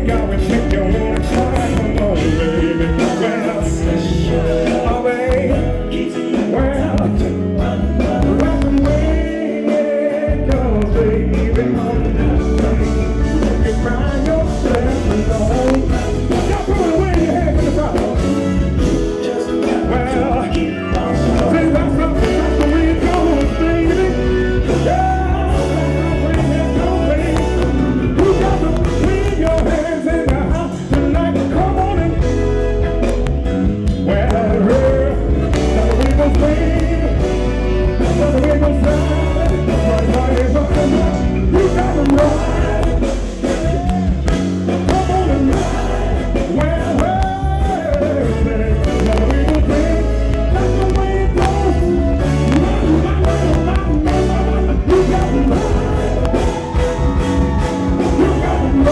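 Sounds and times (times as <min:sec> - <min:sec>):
heavy bass line: 0:00.0 - 0:09.5, 0:10.2 - 0:58.9
funk band playing live: 0:00.0 - 0:58.9.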